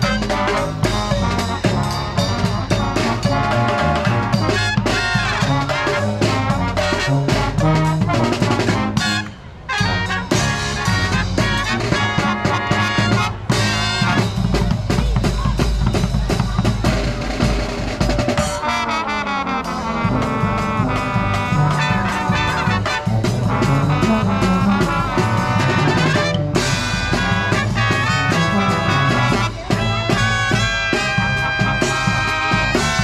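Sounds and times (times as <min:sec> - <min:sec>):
brass marching band: 0:00.0 - 0:33.0
steady drum beat: 0:00.0 - 0:33.0.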